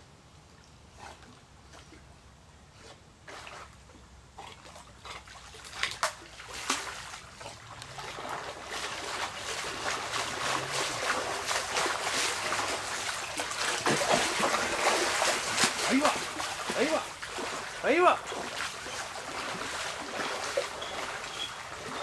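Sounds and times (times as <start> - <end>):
pool water splashing: 1.0 - 22.0.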